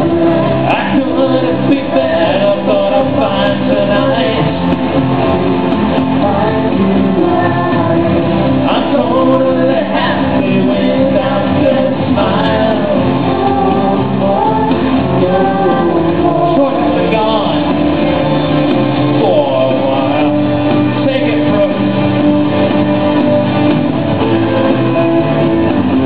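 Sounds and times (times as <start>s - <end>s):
person singing: 0.0s - 23.5s
live band playing: 0.0s - 26.0s.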